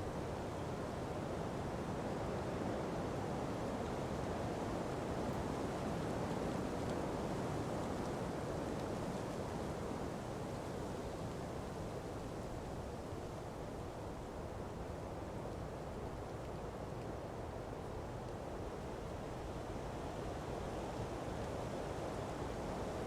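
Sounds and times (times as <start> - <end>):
wind through palm trees: 0.0 - 23.0.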